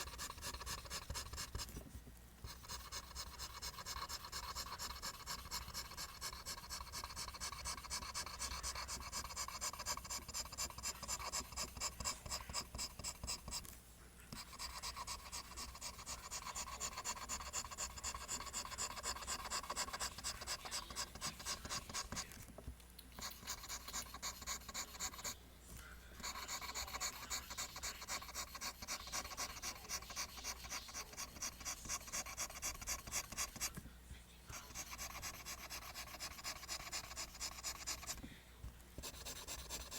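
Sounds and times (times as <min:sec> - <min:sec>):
pencil scratching on paper: 0:00.0 - 0:01.8, 0:02.4 - 0:13.7, 0:14.3 - 0:22.4, 0:23.2 - 0:25.4, 0:26.2 - 0:33.8, 0:34.5 - 0:38.2, 0:39.0 - 0:39.9.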